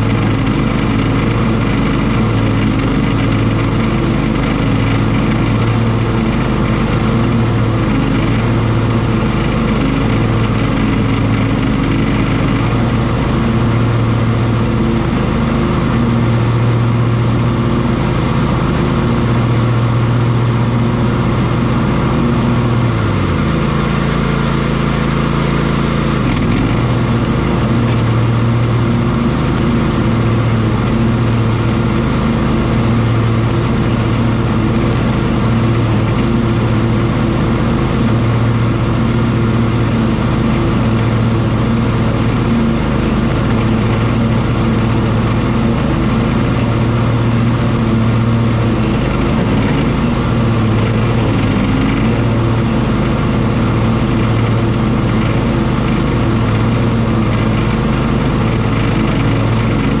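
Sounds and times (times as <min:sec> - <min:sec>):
riding lawn mower cutting grass: 0:00.0 - 1:00.0.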